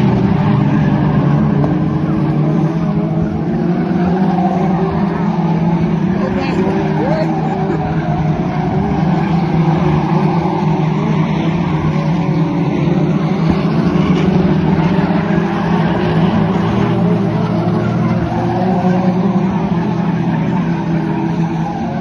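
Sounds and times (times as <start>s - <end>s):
race car engines droning: 0.0s - 22.0s.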